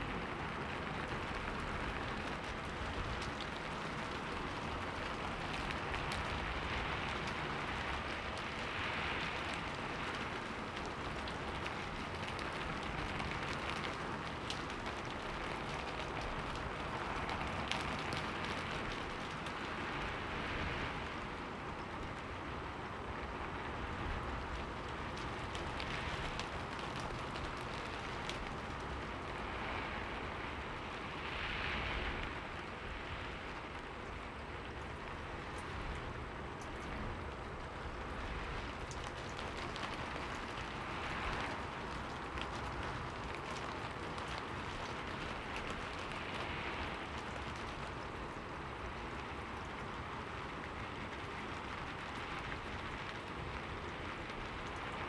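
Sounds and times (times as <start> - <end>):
raindrops ticking: 0.0 - 20.4, 23.0 - 29.6, 33.2 - 55.0
rain on a window: 0.0 - 55.0.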